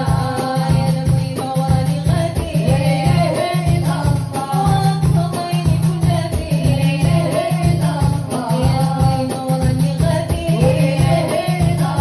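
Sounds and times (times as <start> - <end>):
heavy drum beat: 0.0 - 12.0
woman singing into a microphone: 0.0 - 12.0.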